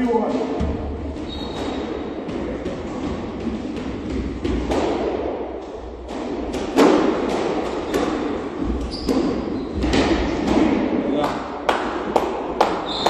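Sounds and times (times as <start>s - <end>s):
squash ball knocks: 1.6s - 13.0s.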